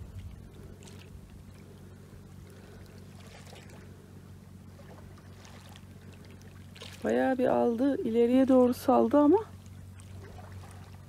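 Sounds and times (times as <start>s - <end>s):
small waves washing: 0.0s - 11.0s
steady low hum: 0.0s - 11.0s.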